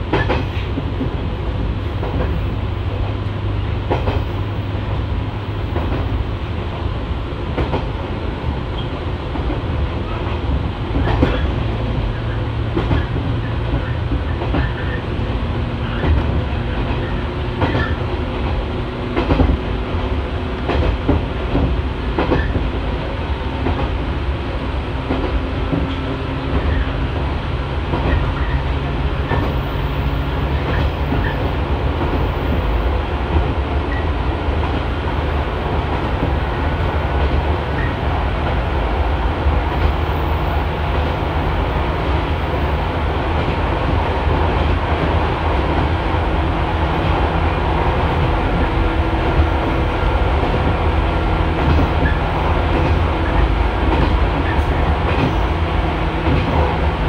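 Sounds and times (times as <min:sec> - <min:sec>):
rail clicks: 0:00.0 - 0:57.0
train wheels rumbling on rail: 0:00.0 - 0:57.0.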